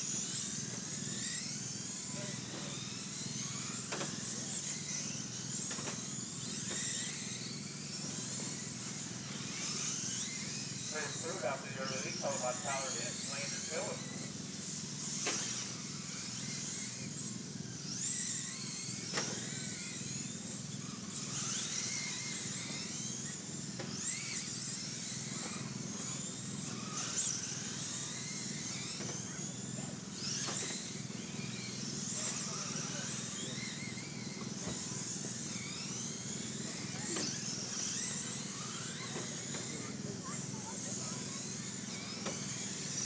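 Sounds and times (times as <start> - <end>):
rc car motors whining: 0.0 - 43.0.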